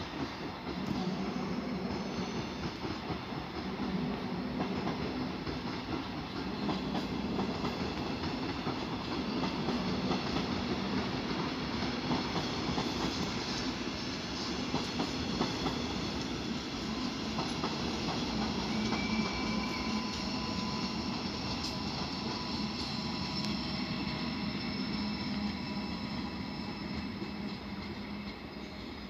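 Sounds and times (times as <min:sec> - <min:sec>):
train rolling on tracks: 0:00.0 - 0:29.0.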